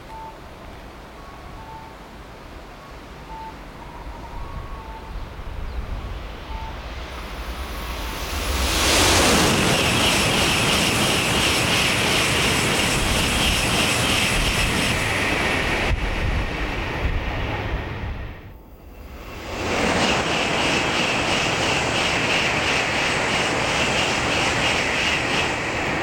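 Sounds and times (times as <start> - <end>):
high-speed train passing: 0.0 - 26.0.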